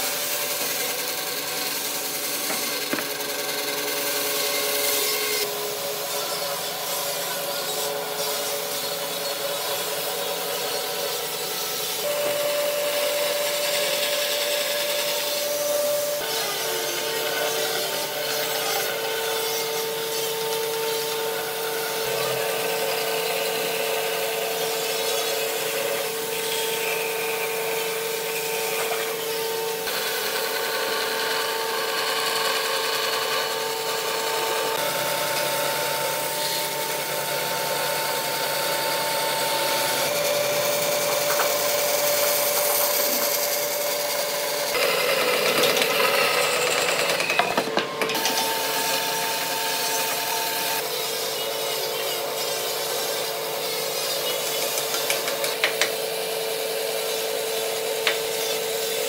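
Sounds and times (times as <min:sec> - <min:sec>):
band saw cutting wood: 0:00.0 - 0:59.0
band saw whine: 0:00.0 - 0:59.0.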